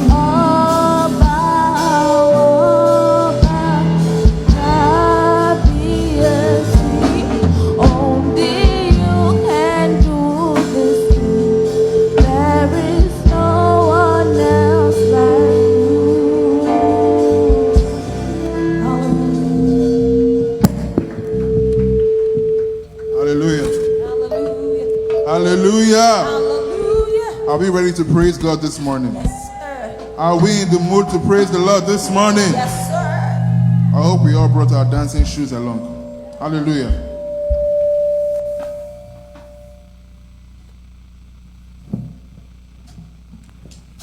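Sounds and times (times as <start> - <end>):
steady drum beat: 0.0 - 15.8, 17.4 - 38.9
gospel singing: 0.0 - 39.6
sustained chords: 0.0 - 40.5.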